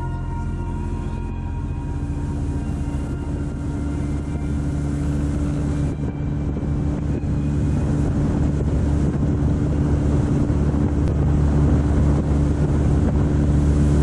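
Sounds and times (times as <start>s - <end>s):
motorboat engine humming: 0.0s - 14.0s.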